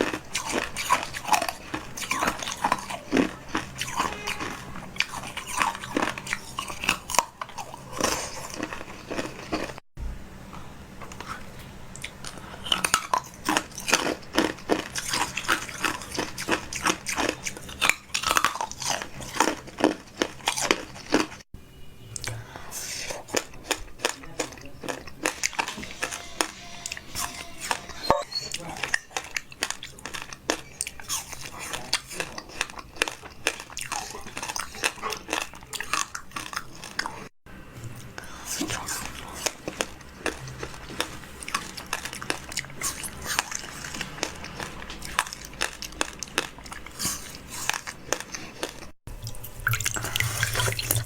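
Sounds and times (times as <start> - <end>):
crunchy biting and chewing: 0.0 - 9.8, 11.1 - 21.4, 22.2 - 37.3, 37.9 - 49.0.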